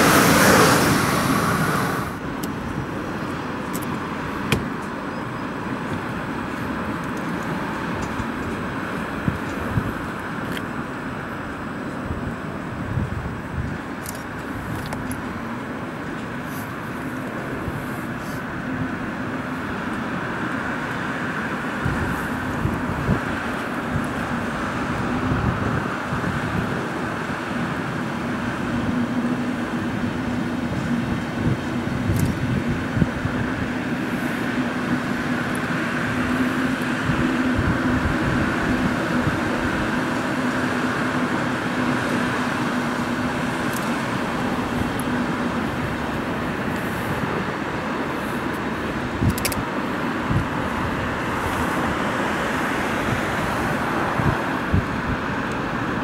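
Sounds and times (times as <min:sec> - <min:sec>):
road traffic: 0:00.0 - 0:56.0
train rumbling on tracks: 0:00.0 - 0:56.0.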